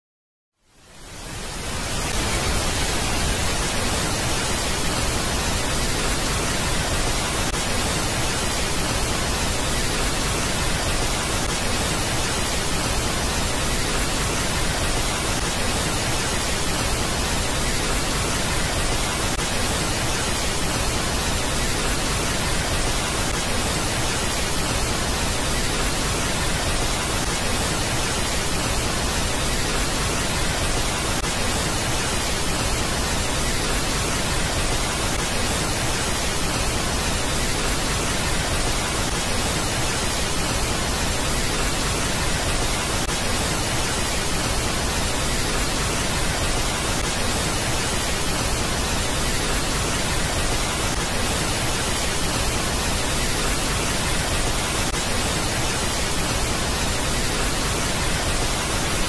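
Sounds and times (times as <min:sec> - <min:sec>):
steady static hiss: 0:00.6 - 0:59.0.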